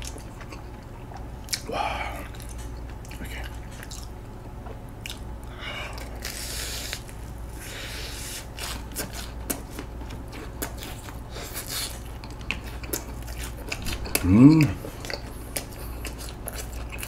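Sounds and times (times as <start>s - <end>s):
person chewing with wet smacks: 0.0s - 7.2s, 8.2s - 17.0s
low steady hum: 0.0s - 17.0s.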